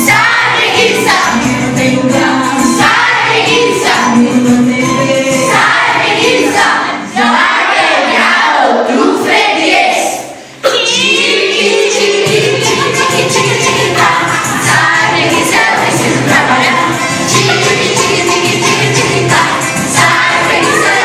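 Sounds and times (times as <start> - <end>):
children's song with voices singing: 0.0 - 21.0.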